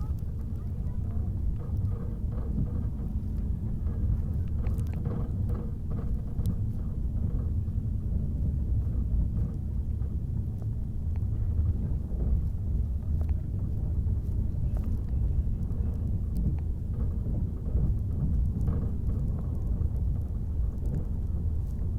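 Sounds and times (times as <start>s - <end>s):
passenger train rumbling: 0.0s - 21.9s.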